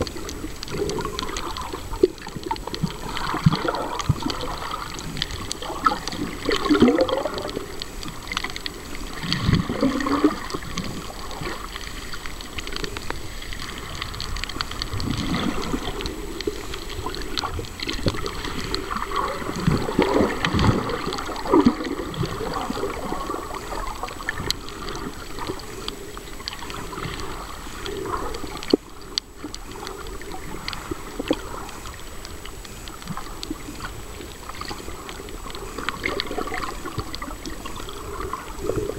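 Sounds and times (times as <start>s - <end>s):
faint clicks: 0.0s - 38.9s
muffled water sloshing: 0.0s - 38.9s.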